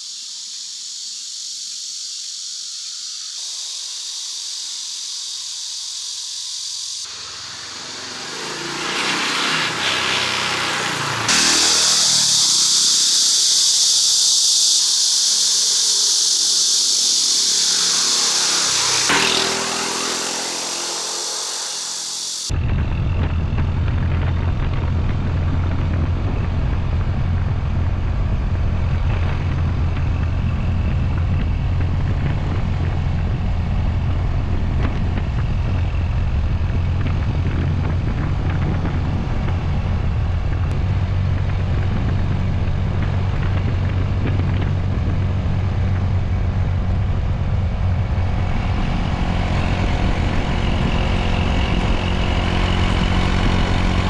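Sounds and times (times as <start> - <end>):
small motorcycle engine running: 3.4 - 54.0
road and wind noise: 7.0 - 54.0.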